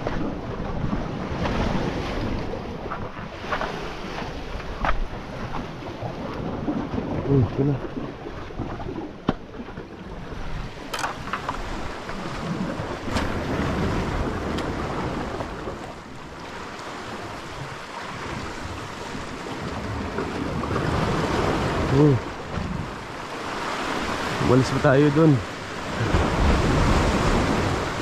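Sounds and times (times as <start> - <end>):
sea waves washing: 0.0 - 28.0
wind on microphone: 0.0 - 28.0.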